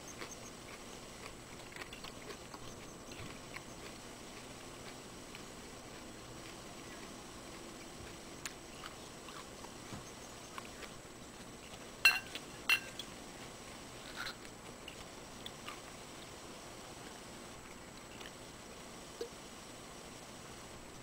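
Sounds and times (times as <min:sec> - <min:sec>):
man chewing pepper: 0:00.0 - 0:19.4.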